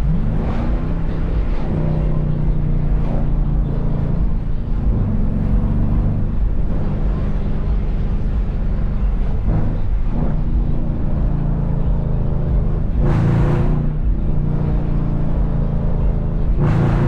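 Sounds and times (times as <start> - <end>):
car engine driving: 0.0 - 17.0.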